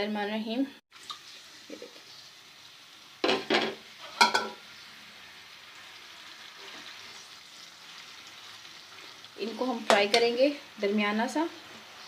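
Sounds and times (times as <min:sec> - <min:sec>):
onions sizzling in ghee: 0:00.9 - 0:12.0.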